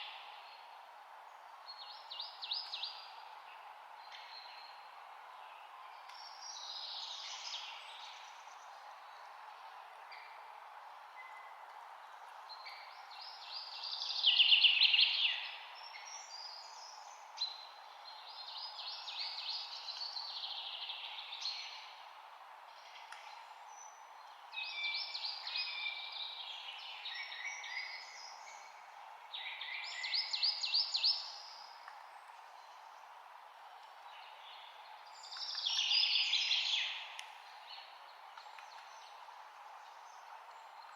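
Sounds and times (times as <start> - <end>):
songbird singing: 0.0 - 22.0, 22.7 - 40.9
steady background hiss: 0.0 - 40.9.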